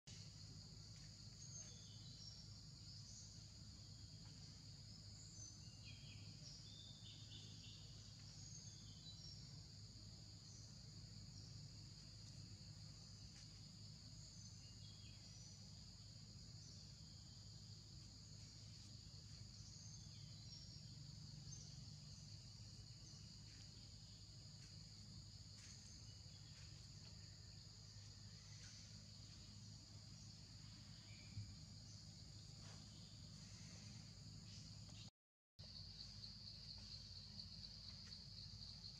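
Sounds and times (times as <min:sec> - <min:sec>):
high-pitched insect chorus: 0:00.1 - 0:38.9
short insect chirps: 0:00.1 - 0:38.9.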